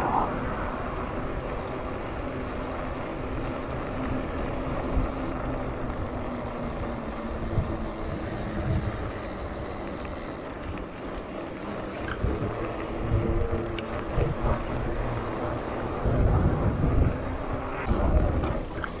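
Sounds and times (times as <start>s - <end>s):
bike tyres rolling on asphalt: 0.0s - 19.0s
wind buffeting: 0.0s - 19.0s.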